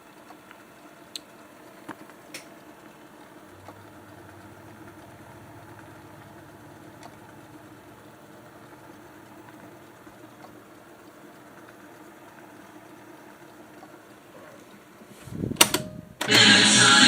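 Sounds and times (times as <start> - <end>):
tape deck motor hum: 0.0 - 17.0.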